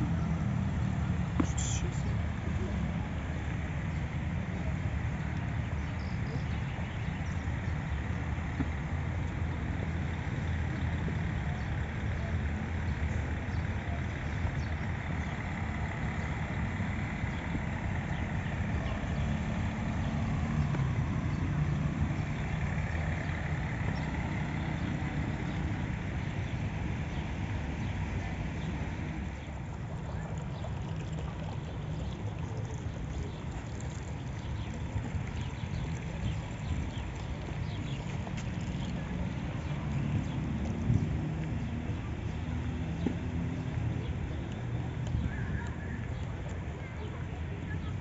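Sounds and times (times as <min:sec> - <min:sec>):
fountain bubbling and splashing: 0:00.0 - 0:48.0
low outdoor rumble: 0:00.0 - 0:48.0.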